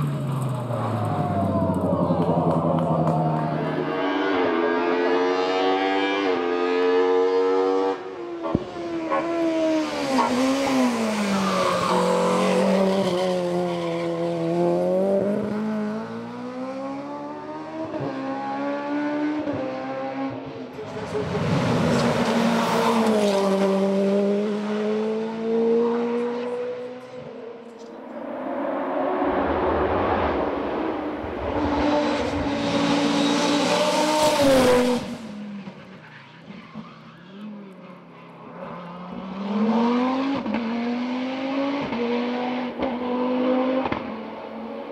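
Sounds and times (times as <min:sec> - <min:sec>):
race car engine at full throttle: 0:00.0 - 0:44.9.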